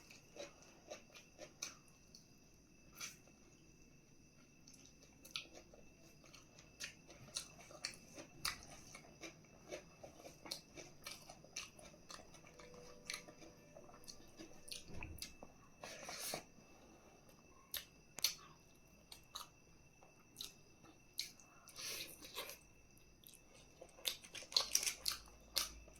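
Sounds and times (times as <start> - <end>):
person chewing food: 0.0 - 2.3, 4.6 - 16.5, 17.2 - 25.9.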